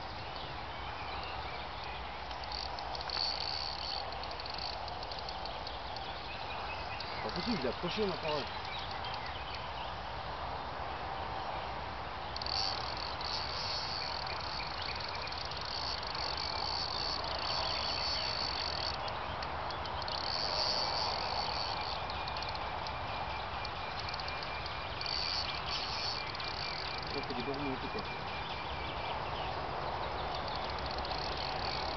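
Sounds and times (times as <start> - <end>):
insects trilling: 0.0 - 9.8, 12.1 - 31.9
outdoor background hiss: 0.0 - 31.9.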